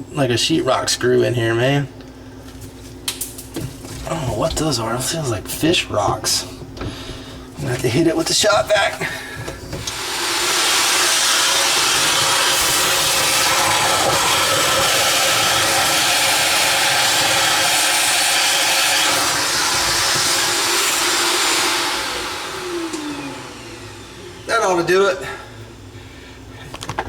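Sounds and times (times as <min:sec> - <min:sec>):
shop vacuum running: 0:03.8 - 0:27.0.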